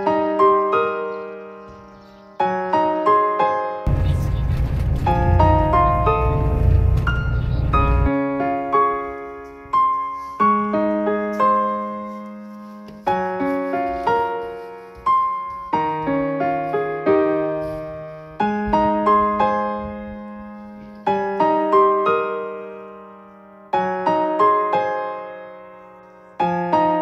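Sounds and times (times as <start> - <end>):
slow solo piano melody: 0.0 - 4.0, 4.8 - 27.0.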